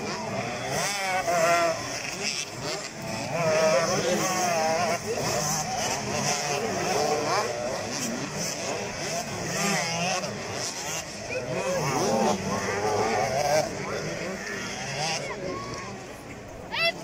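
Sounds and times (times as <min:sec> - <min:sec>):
quad engines revving: 0:00.0 - 0:17.0.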